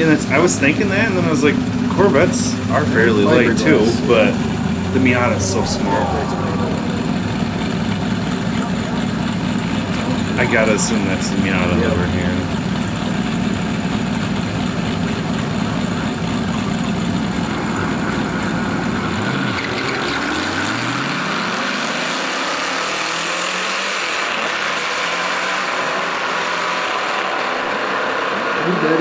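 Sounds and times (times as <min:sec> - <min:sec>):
car accelerating through gears: 0:00.0 - 0:29.0
drag racing car engines: 0:00.0 - 0:29.0.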